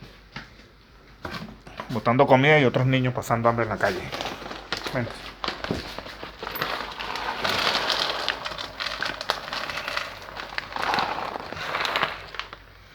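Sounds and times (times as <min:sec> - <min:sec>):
crackling and rustling: 0:00.0 - 0:12.9.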